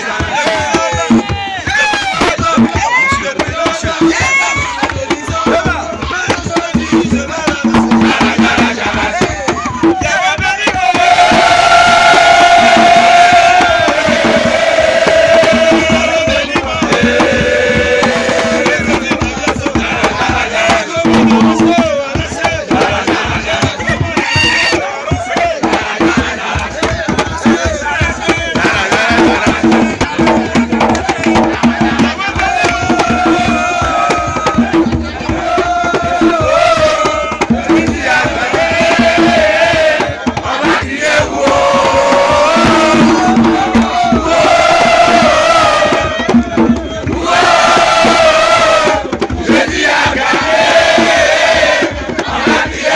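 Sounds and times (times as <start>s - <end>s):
crowd shouting: 0.0s - 52.9s
drums beating: 0.0s - 52.9s
group singing and chanting: 0.0s - 52.9s.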